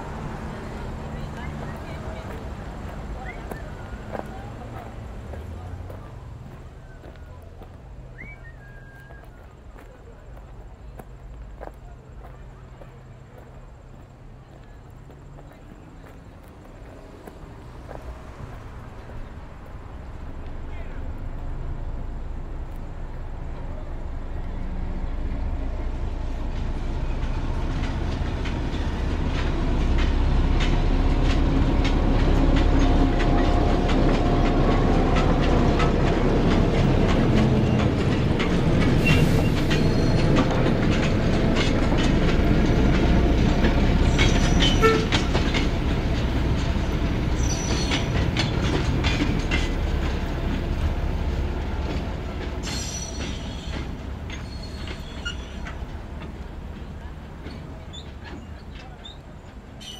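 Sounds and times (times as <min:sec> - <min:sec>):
diesel engine rumbling: 0:00.0 - 0:59.9
train wheels clicking over rail joints: 0:00.0 - 0:59.9.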